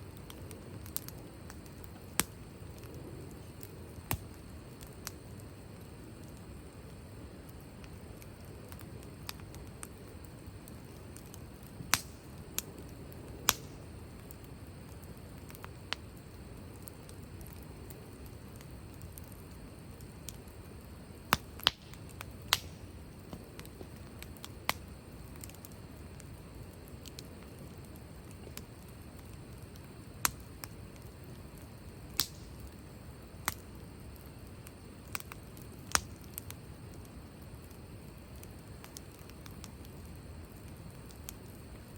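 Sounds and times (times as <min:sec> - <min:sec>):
firewood crackles and pops: 0:00.0 - 0:41.9
wood fire burning rush: 0:00.0 - 0:41.9.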